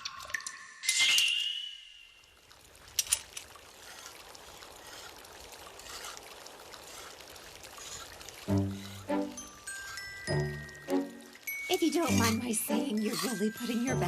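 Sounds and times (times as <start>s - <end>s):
water trickling and pouring: 0.0s - 14.0s.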